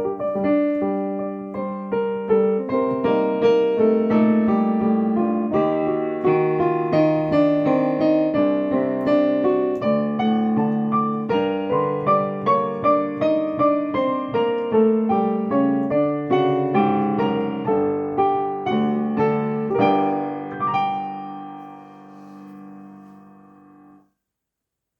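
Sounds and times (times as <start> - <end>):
solo piano melody: 0.0 - 24.1.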